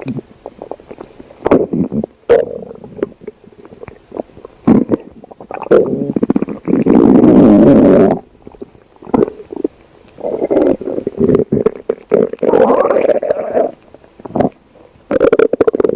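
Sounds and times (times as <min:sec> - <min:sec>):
stomach growling: 0:00.0 - 0:15.9.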